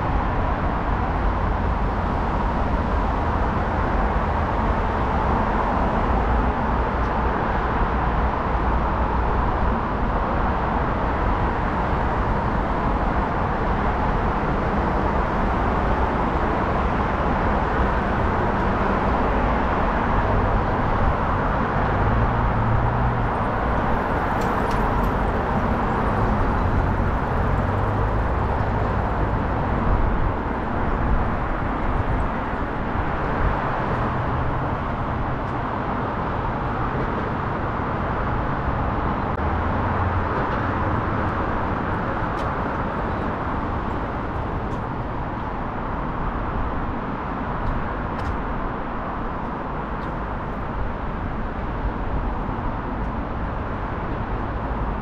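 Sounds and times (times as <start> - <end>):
passing vehicle engines: 0.0 - 55.0
traffic noise: 0.0 - 55.0.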